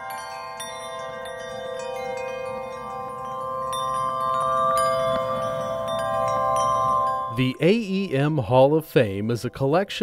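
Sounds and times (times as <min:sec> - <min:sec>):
bell-like chiming notes: 0:00.0 - 0:10.0
held chord: 0:00.0 - 0:10.0.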